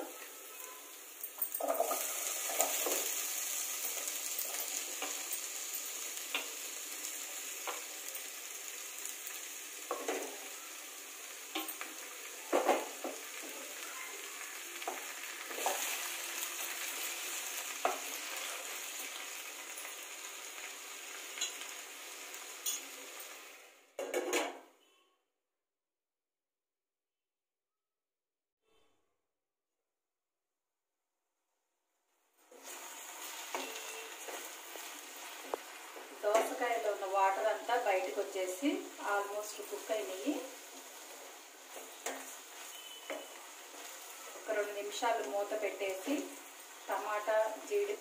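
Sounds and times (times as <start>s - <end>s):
vegetables sizzling in oil: 0.0s - 23.9s, 32.4s - 48.0s.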